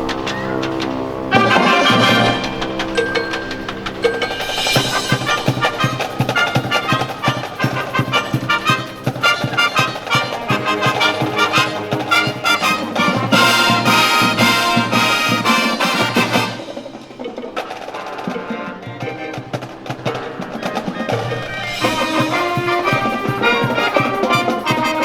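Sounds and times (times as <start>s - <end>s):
marching band playing: 0.0s - 25.0s.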